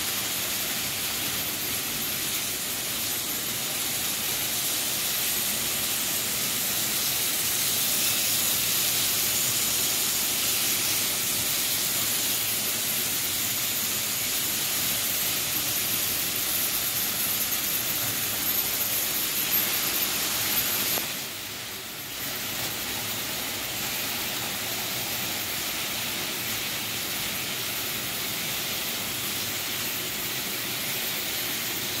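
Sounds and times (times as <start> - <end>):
model trains whirring on track: 0.0 - 32.0.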